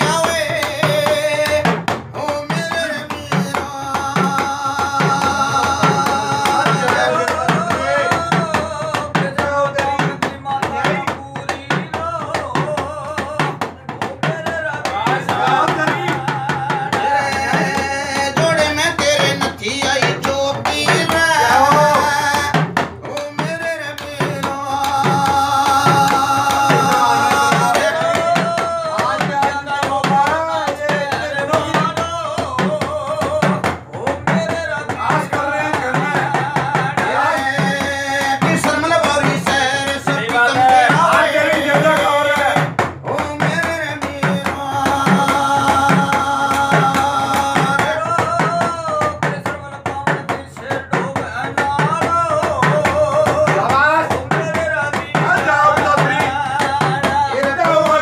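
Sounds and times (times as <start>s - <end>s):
men singing devotional song: 0.0s - 58.0s
stick-struck drums: 0.0s - 58.0s.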